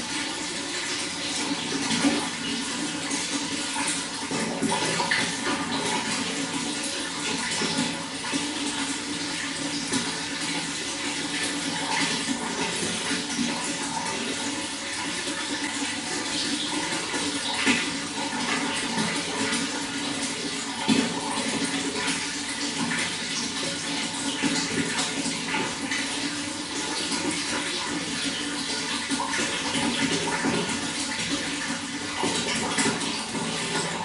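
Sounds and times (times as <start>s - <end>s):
running water splashing: 0.0s - 34.0s.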